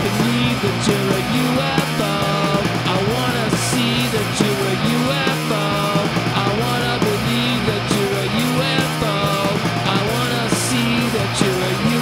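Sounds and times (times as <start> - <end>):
electric guitar: 0.0 - 12.0
garage punk rock band playing: 0.0 - 12.0
steady bass line: 0.0 - 12.0.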